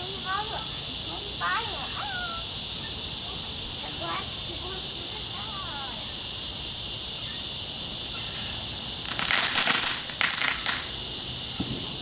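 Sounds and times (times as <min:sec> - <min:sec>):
firework crackling: 0:00.0 - 0:12.0
firework fountain hissing: 0:00.0 - 0:12.0.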